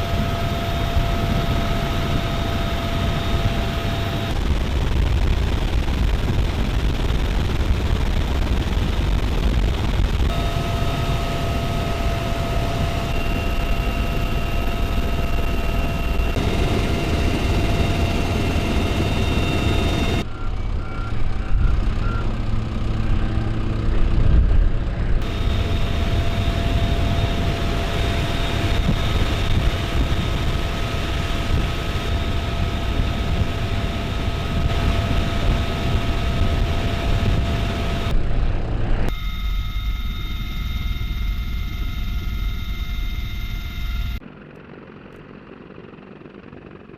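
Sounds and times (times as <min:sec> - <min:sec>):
aircraft engine whine and rumble: 0:00.0 - 0:46.9.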